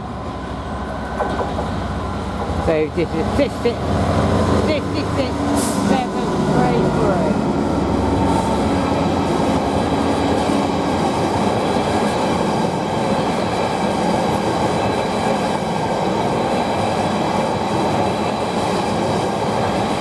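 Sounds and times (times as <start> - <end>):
locomotive engine hum: 0.0 - 20.0
train wheels rumbling on rails: 0.0 - 20.0.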